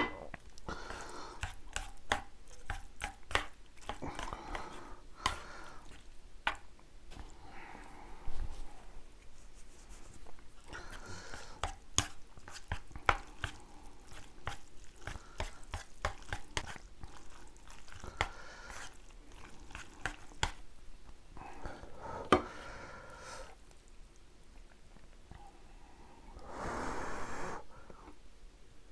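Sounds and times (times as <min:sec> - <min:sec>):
wet chewing of noodles: 0:00.3 - 0:25.4.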